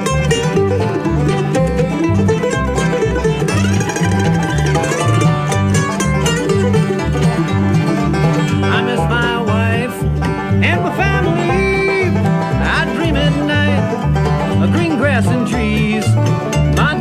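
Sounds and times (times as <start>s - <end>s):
bluegrass banjo and guitar picking: 0.0s - 17.0s
repeating bass line: 0.0s - 17.0s.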